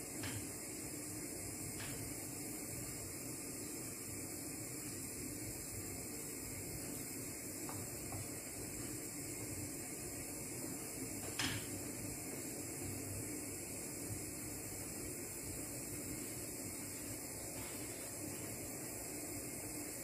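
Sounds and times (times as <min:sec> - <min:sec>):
sauce simmering with hiss: 0:00.0 - 0:20.0.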